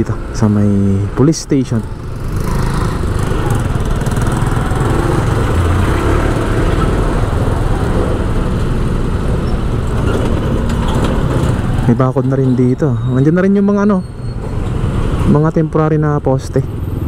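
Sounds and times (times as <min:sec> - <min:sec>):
motorcycle engines running: 0:00.0 - 0:17.0
street traffic: 0:00.0 - 0:17.0.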